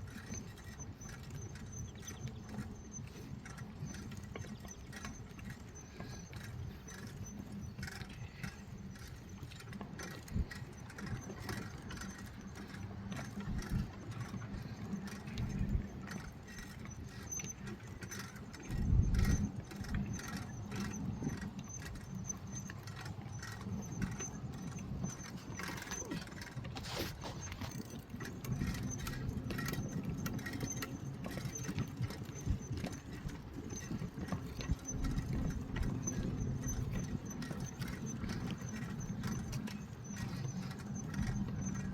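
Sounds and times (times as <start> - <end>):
bicycle rattling clicks: 0.0 - 41.9
bicycle rolling rumble: 0.0 - 41.9.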